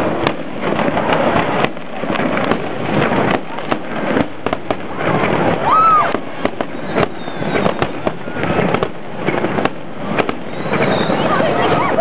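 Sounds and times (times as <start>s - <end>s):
firework crackling: 0.0s - 12.0s
firework shells bursting: 0.0s - 12.0s.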